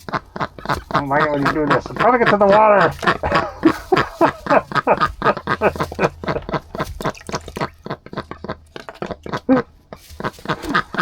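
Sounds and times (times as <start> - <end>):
ducks dabbling in water: 0.0 - 11.0.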